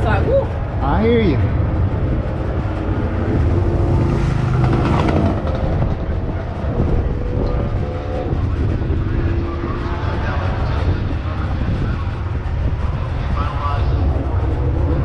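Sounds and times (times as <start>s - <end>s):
tram engine drone: 0.0s - 15.0s
tram rolling noise: 0.0s - 15.0s
wind: 0.0s - 15.0s.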